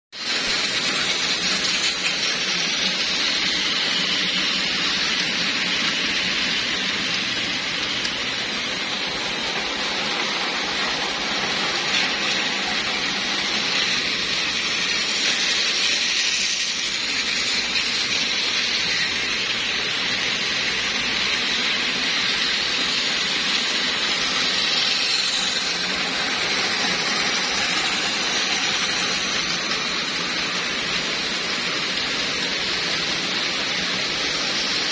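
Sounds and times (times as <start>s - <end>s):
toy trains whirring and rattling: 0.1s - 34.9s.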